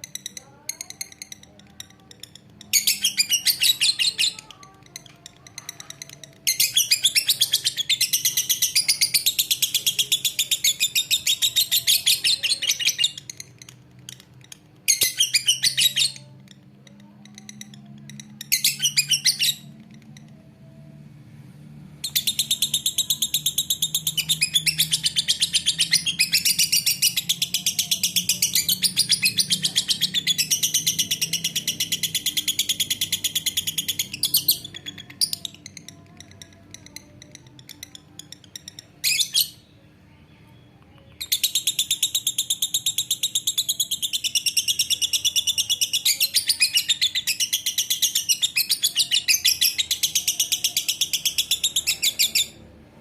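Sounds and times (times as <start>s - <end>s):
lovebird chattering trill: 0.0s - 20.4s, 22.1s - 39.7s, 41.2s - 52.6s.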